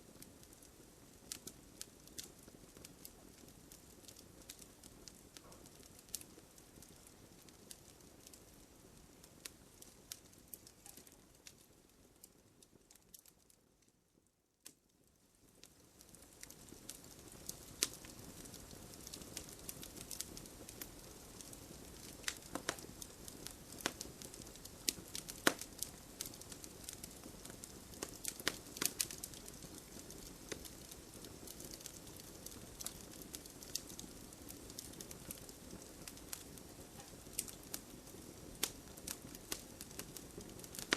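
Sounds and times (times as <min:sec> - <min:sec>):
campfire crackling: 0:00.0 - 0:13.9, 0:14.6 - 0:40.9
low hiss of burning: 0:00.0 - 0:40.9.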